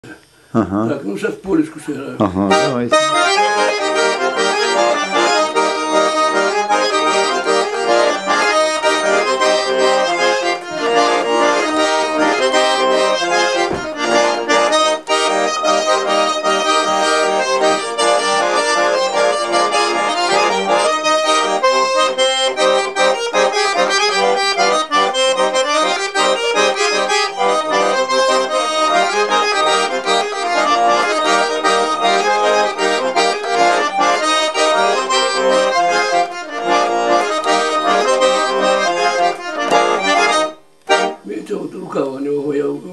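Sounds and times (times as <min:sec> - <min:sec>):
button accordion playing a polka: 0:02.2 - 0:41.9.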